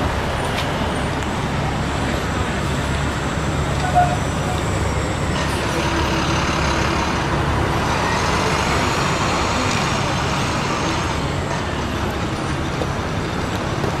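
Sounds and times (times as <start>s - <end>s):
cars rolling by: 0.0s - 14.0s
dump truck diesel engine passing: 0.0s - 14.0s.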